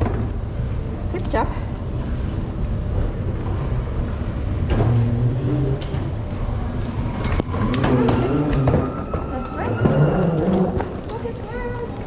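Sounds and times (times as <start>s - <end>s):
escalator mechanical rumble: 0.0s - 12.0s.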